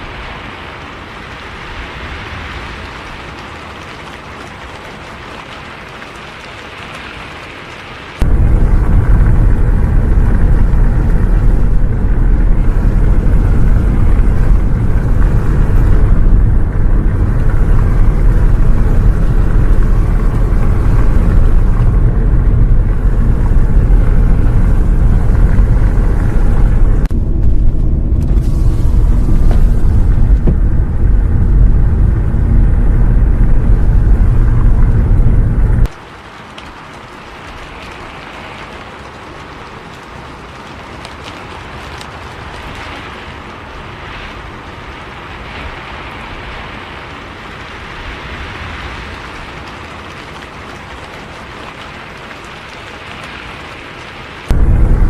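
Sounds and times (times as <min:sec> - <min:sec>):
bus engine and road noise: 0:00.0 - 0:36.0, 0:37.7 - 0:55.0
rain falling: 0:00.0 - 0:55.0.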